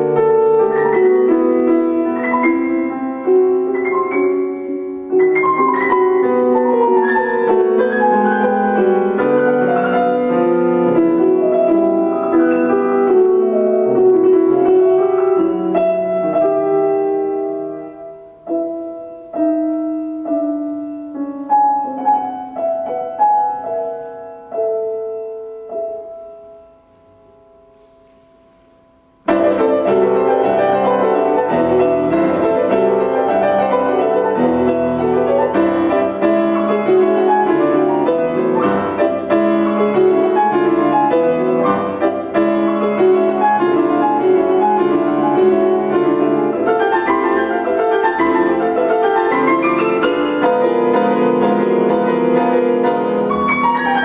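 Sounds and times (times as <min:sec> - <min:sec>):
solo grand piano playing: 0:00.0 - 0:54.0.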